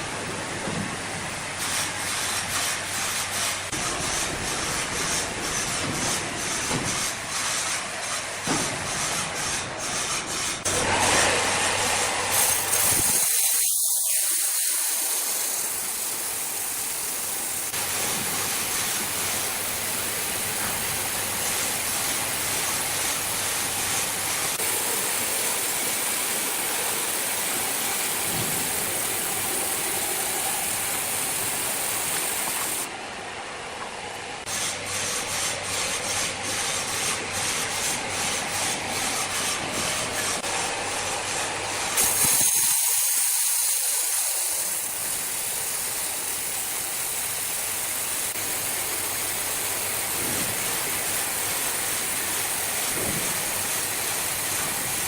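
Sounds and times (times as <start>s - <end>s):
sawmill machinery rushing: 0.0s - 55.0s.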